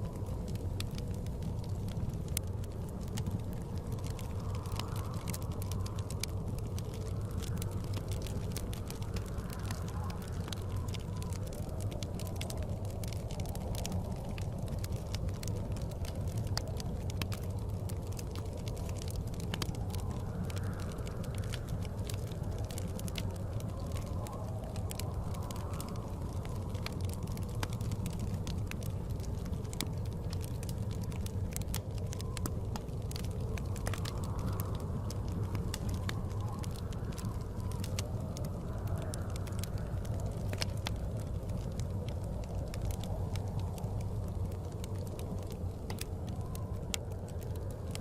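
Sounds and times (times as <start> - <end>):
storm wind rumble: 0.0 - 48.0
wood fire crackling: 0.0 - 48.0.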